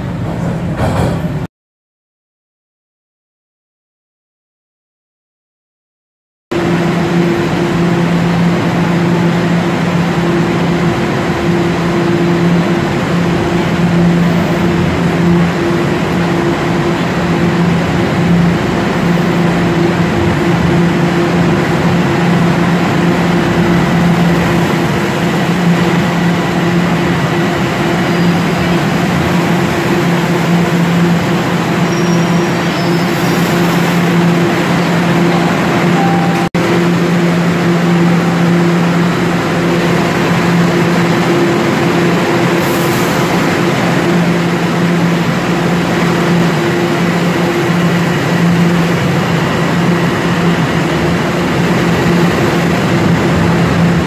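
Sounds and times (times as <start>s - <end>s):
subway train rumbling: 0.0s - 1.5s, 6.5s - 54.0s.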